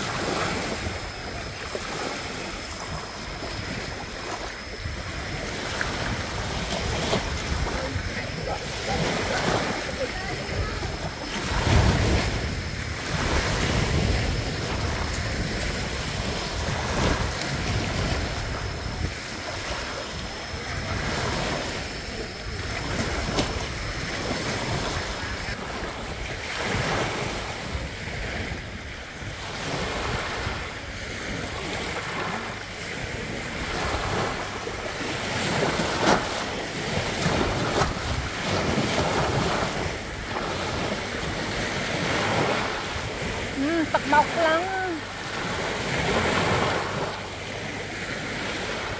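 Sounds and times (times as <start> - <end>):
small waves breaking on beach: 0.0 - 48.9.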